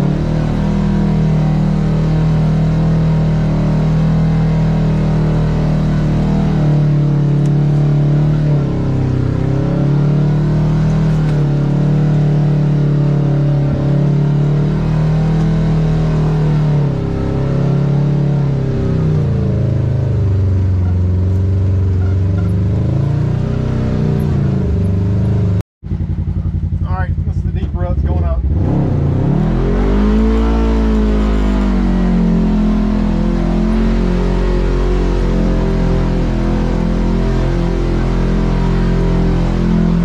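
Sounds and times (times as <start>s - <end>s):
utility vehicle engine revving: 0.0s - 40.0s.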